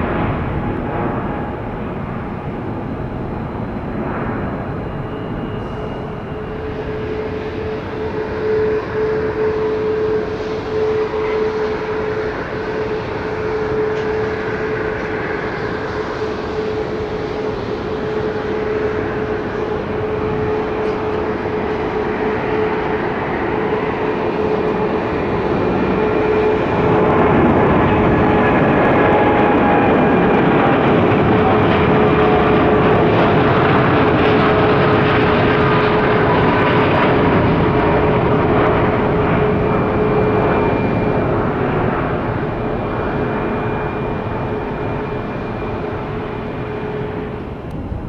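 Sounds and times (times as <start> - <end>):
jet engine roar with whine: 0.0 - 48.0.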